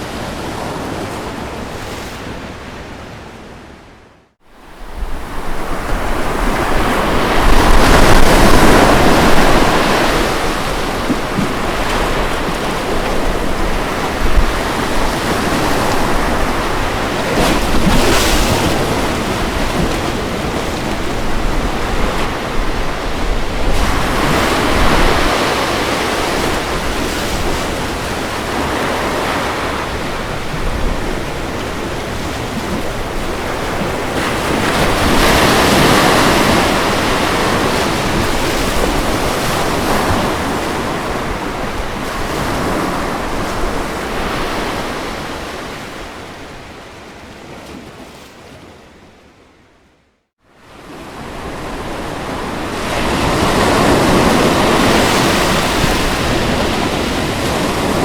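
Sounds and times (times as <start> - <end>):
ocean waves breaking on beach: 0.0 - 49.6, 50.4 - 58.0.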